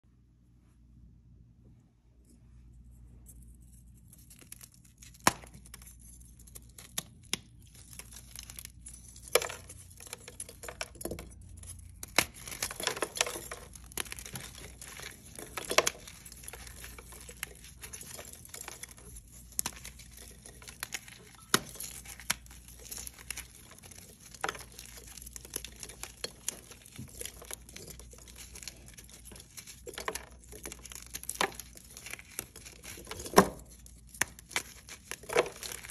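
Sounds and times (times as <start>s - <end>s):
chalk crumbling and grinding: 2.7s - 35.9s
chalk blocks cracking and snapping: 4.2s - 35.9s.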